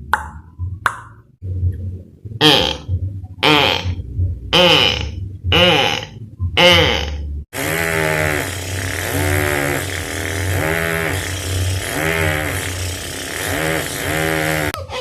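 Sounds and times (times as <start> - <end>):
beatboxer imitating revving engine: 2.4 - 14.8.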